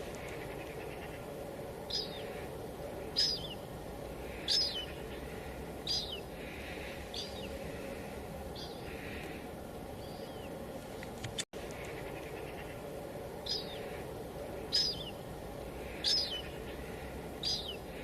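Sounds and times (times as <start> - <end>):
bird calling: 0.0 - 10.6, 11.6 - 18.0.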